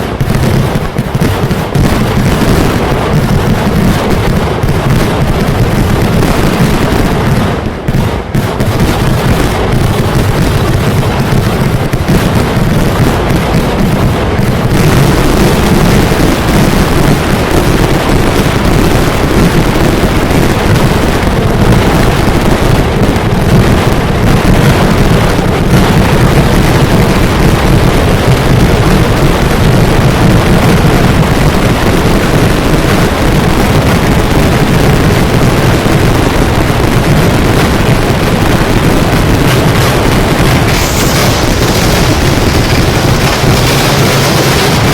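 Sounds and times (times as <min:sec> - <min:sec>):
fireworks barrage roar: 0:00.0 - 0:44.9.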